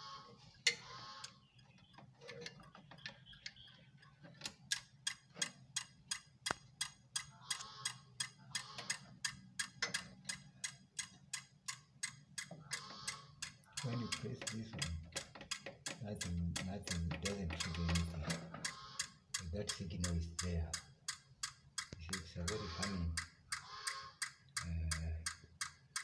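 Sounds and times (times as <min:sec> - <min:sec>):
relay clicking: 0:00.6 - 0:26.0.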